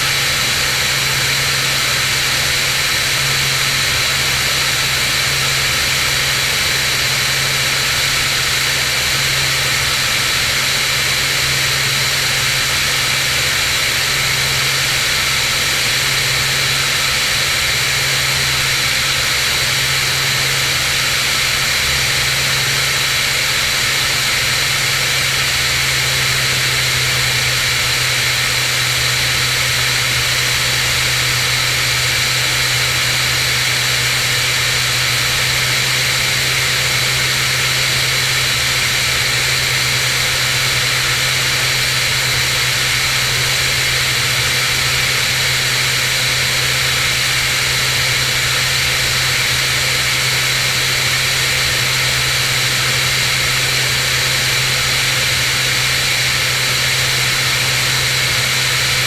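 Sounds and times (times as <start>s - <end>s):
propeller plane engine drone: 0.0s - 59.0s.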